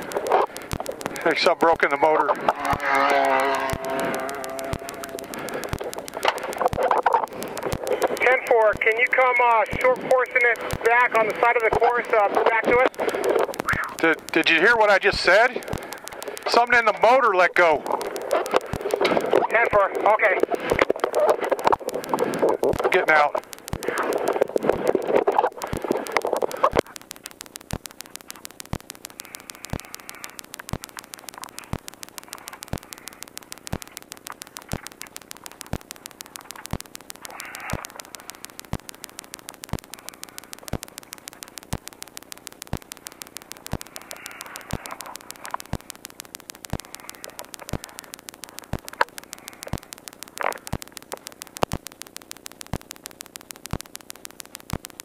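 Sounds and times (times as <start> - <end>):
radio static hiss: 0.0 - 55.0
rapid static ticking: 0.0 - 55.0.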